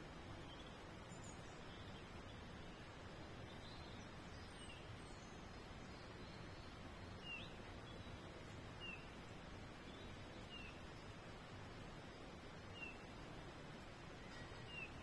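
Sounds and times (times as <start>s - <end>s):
steady background hiss: 0.0s - 15.0s
faint bird chirps: 0.3s - 11.3s, 11.9s - 13.3s, 14.0s - 15.0s.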